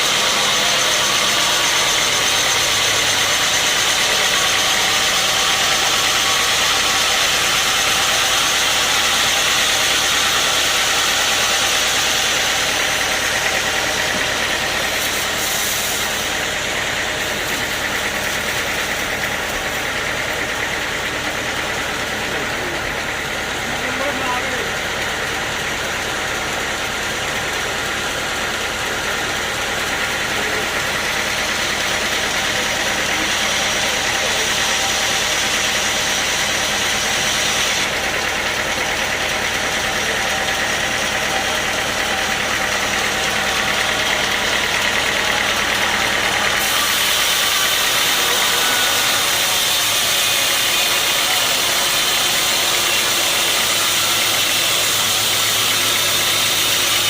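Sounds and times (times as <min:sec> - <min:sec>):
saw whining and hissing: 0:00.0 - 0:57.0.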